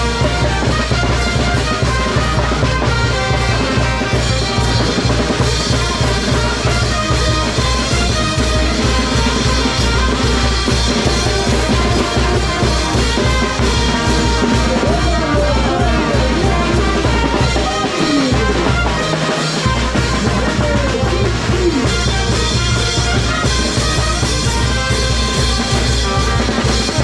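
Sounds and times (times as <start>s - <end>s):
brass band playing: 0.0s - 27.0s
drum kit with timbales: 0.0s - 27.0s.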